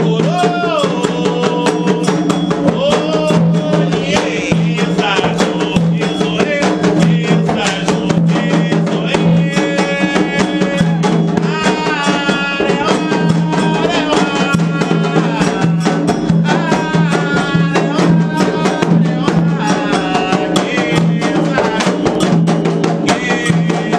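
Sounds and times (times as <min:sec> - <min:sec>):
hand drums fast rhythm: 0:00.0 - 0:23.9
people chanting: 0:00.0 - 0:23.9.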